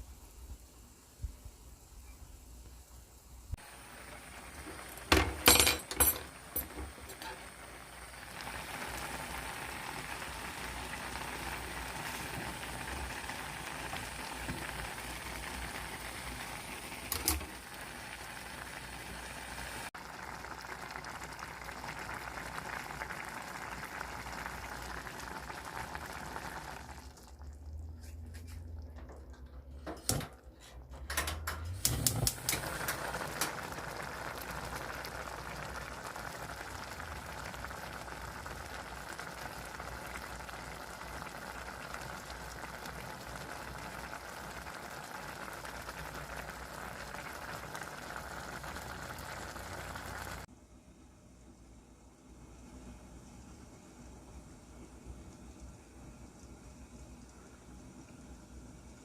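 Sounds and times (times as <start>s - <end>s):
water boiling in a pot: 0.0s - 29.8s, 31.7s - 50.8s, 51.4s - 59.0s.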